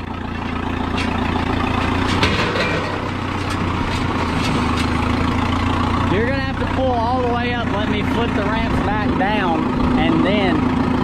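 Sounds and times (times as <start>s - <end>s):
backhoe engine idling: 0.0s - 11.0s.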